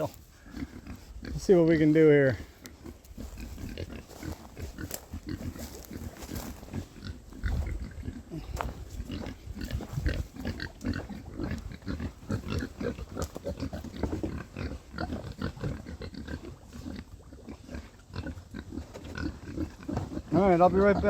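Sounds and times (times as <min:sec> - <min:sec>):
pigs grunting and snuffling: 0:00.0 - 0:21.0.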